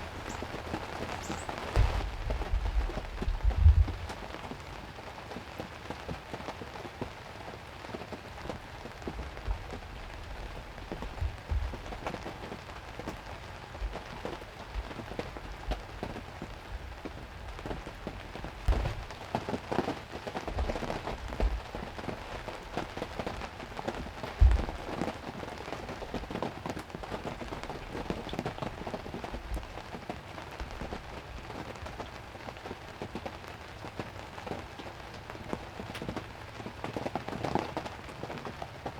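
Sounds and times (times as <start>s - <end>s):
heavy rain pattering: 0.0s - 38.9s
heavy raindrops knocking: 0.0s - 38.9s.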